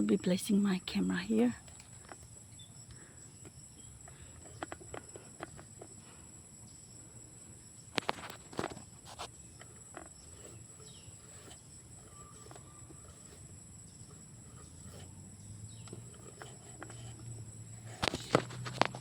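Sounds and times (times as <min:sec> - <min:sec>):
high insect drone: 0:00.0 - 0:19.0
faint ticks: 0:01.5 - 0:06.8, 0:07.9 - 0:19.0
sharp clicks and rustles: 0:01.6 - 0:06.5, 0:07.8 - 0:19.0.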